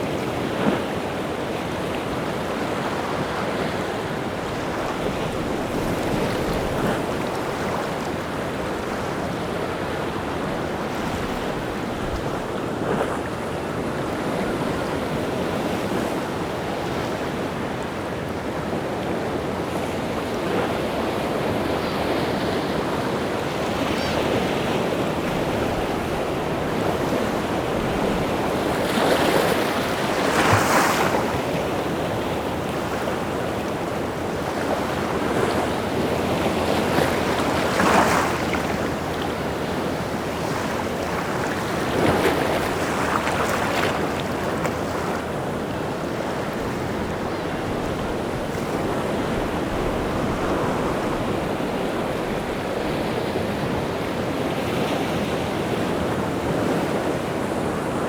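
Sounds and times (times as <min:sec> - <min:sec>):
waves breaking: 0:00.0 - 0:58.0.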